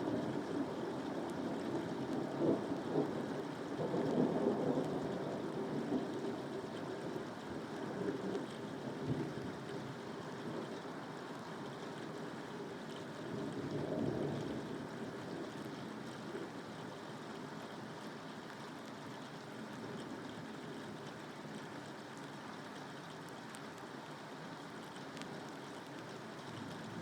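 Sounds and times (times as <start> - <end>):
steady rainfall: 0.0 - 27.0.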